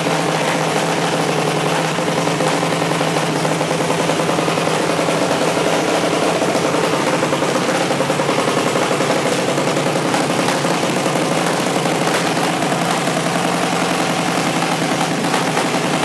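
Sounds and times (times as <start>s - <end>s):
single-cylinder engine running: 0.0s - 16.0s.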